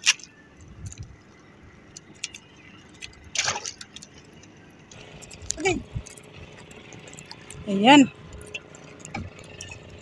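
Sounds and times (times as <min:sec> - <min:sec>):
water splashing and dripping: 0:01.9 - 0:09.9.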